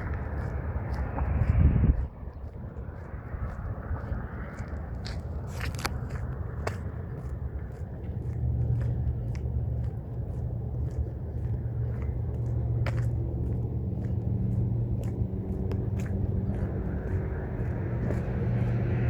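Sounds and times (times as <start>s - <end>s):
pitched engine hum: 0.0s - 19.0s.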